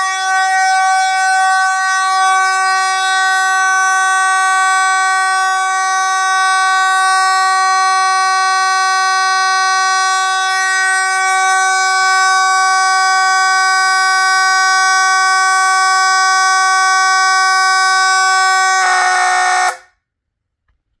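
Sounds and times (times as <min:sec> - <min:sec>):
fire alarm horn buzzing: 0:00.0 - 0:20.1.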